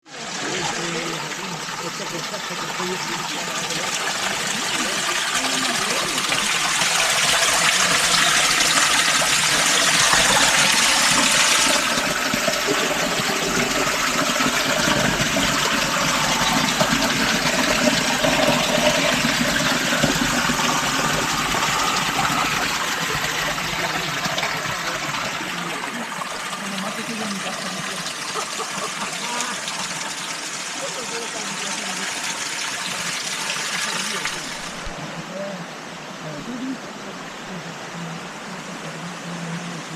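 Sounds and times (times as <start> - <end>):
rushing water: 0.1 - 39.9.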